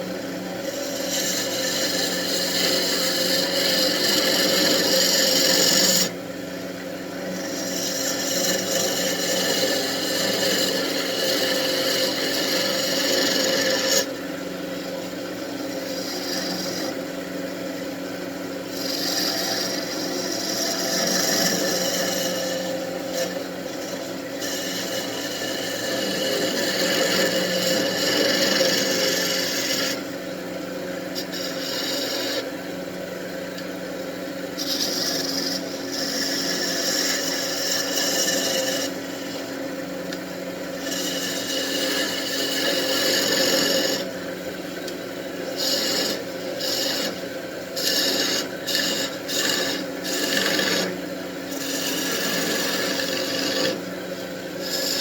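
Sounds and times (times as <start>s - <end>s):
wood lathe humming: 0.0s - 55.0s
turning tool scraping wood: 0.7s - 6.1s, 7.3s - 14.1s, 15.8s - 17.0s, 18.6s - 30.1s, 31.2s - 32.5s, 34.6s - 39.5s, 40.8s - 44.1s, 44.8s - 55.0s.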